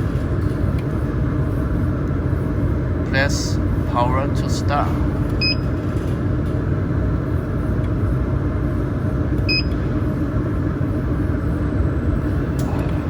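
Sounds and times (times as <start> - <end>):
water chiller humming: 0.0 - 13.0.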